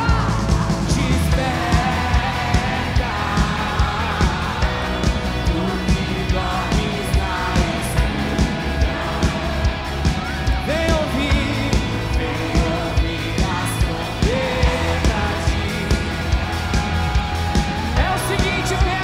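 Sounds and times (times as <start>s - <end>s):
live band playing: 0.0s - 19.0s
person singing: 0.0s - 19.0s
steady drum beat: 0.0s - 19.0s.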